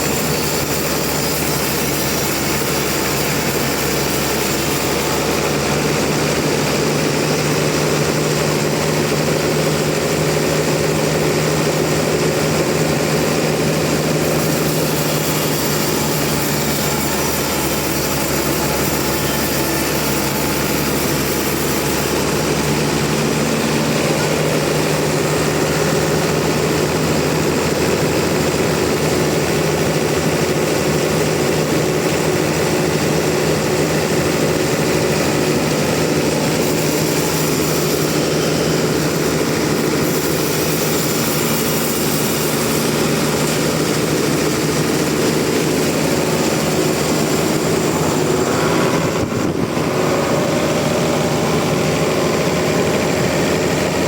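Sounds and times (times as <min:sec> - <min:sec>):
sawmill machinery cutting log: 0:00.0 - 0:54.0.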